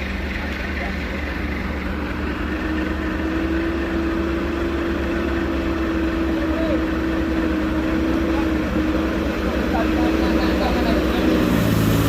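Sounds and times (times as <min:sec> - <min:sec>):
diesel engine running: 0:00.0 - 0:12.0
steady whine: 0:00.0 - 0:12.0.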